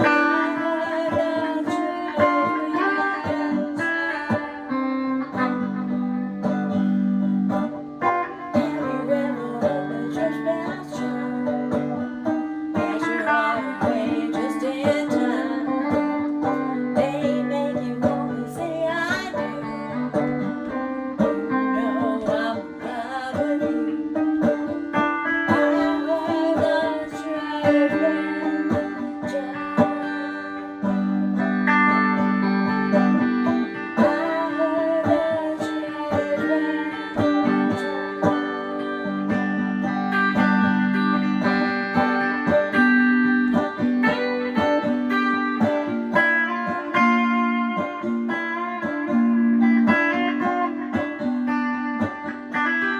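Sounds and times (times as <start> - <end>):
electric guitar: 0.0 - 52.9
electrified banjo picking: 0.0 - 52.9.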